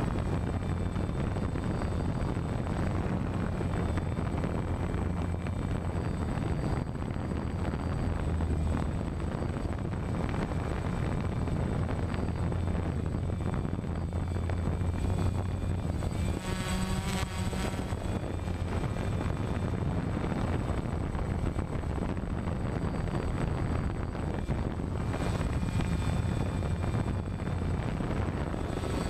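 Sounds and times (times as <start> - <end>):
drone propellers buzzing: 0.0 - 29.0
low rumble: 0.0 - 29.0.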